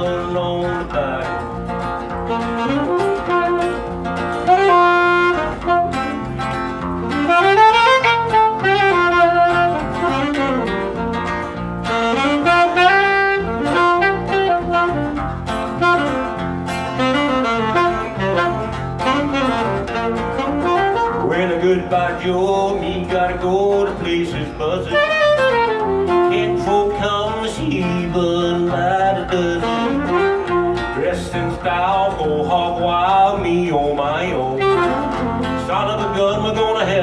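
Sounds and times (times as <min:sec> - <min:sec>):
electric bass: 0:00.0 - 0:37.0
saxophone melody: 0:00.0 - 0:37.0
strummed acoustic guitar: 0:00.0 - 0:37.0.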